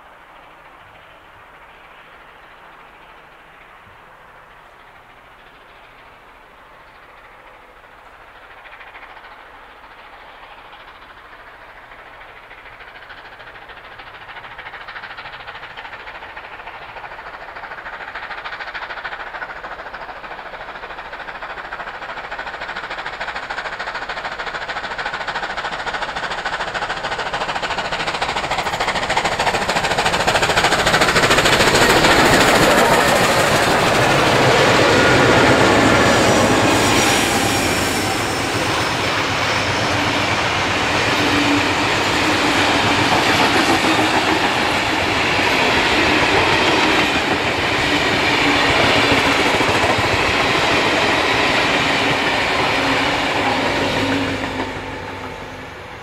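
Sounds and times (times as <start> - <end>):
steam locomotive exhaust beats: 0.0 - 56.0
train carriages rolling by: 0.0 - 56.0.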